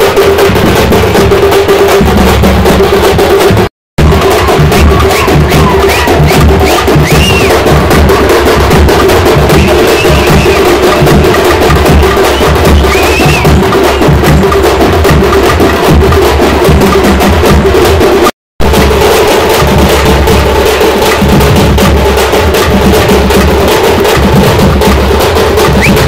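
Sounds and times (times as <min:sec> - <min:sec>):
fast festival drumming: 0:00.0 - 0:26.0.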